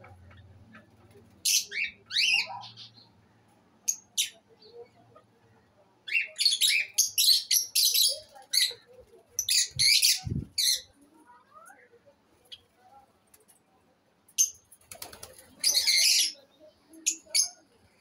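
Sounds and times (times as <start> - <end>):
lovebirds chirping: 0.0 - 12.8, 14.4 - 18.0.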